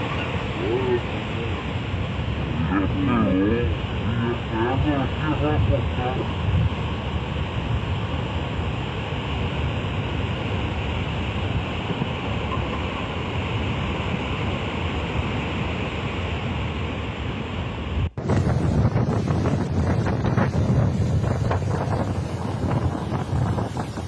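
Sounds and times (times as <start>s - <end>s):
heavy surf: 0.0s - 24.0s
wind noise on microphone: 0.0s - 24.0s.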